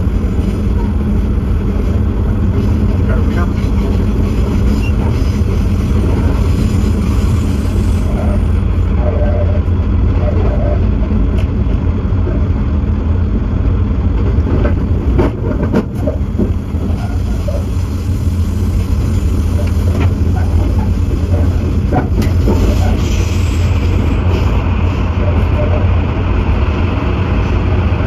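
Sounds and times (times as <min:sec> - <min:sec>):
low engine drone: 0:00.0 - 0:28.0
train wheels on rail: 0:00.0 - 0:28.0.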